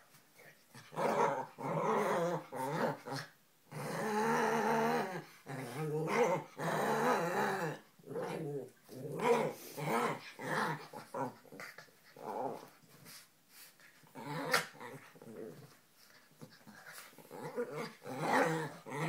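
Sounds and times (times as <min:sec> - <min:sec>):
dogs play-growling: 0:00.7 - 0:19.0.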